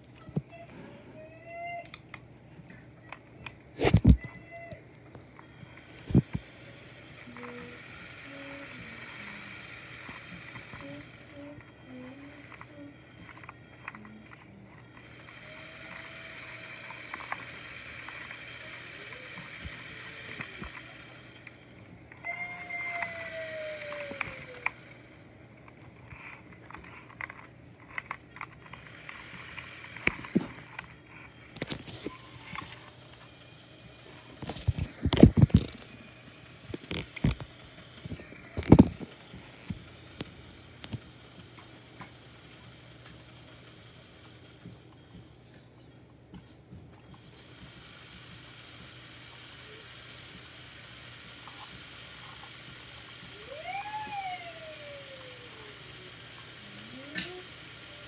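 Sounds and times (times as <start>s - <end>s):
small electric motor whine: 2.7s - 58.0s.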